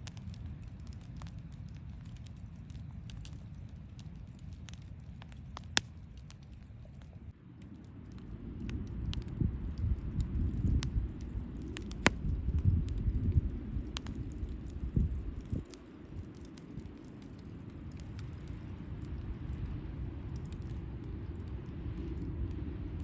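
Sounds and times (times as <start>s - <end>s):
campfire crackling and popping: 0.0s - 23.0s
low fire rumble: 0.0s - 23.0s.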